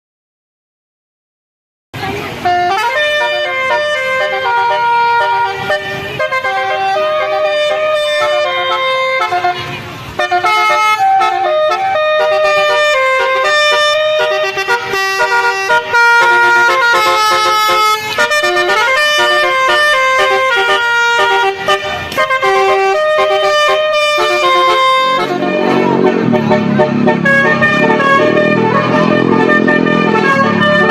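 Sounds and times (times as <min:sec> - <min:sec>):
musical vehicle horn melody: 0:02.3 - 0:30.9.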